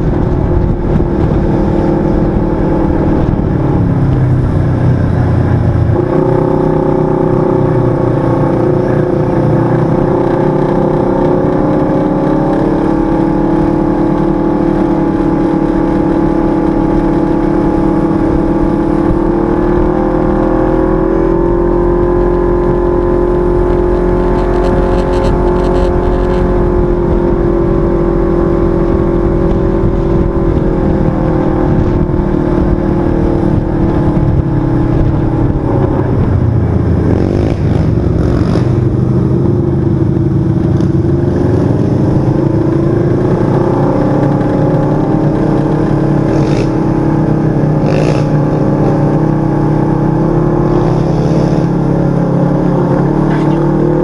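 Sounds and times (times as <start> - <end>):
utility vehicle engine droning: 0.0 - 54.0.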